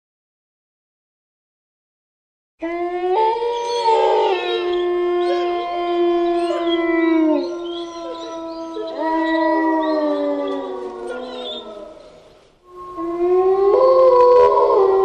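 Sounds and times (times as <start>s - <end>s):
long overlapping howls: 2.6s - 15.0s.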